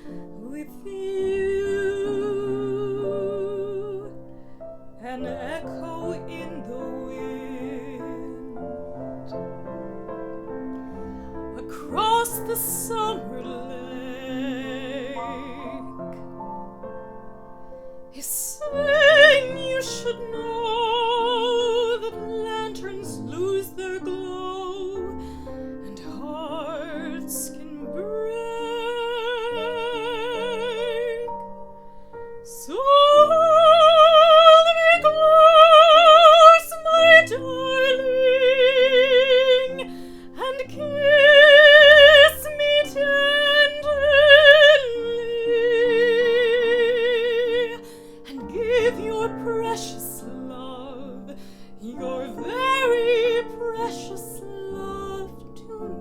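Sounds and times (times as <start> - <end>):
woman singing with vibrato: 0.0 - 4.2, 5.0 - 8.7, 11.5 - 16.2, 18.2 - 31.3, 32.5 - 56.0
piano accompaniment: 0.0 - 56.0.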